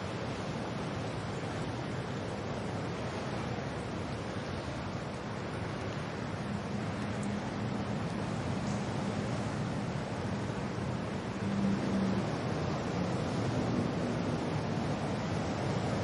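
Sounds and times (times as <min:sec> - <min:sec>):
wind and rain: 0:00.0 - 0:16.0.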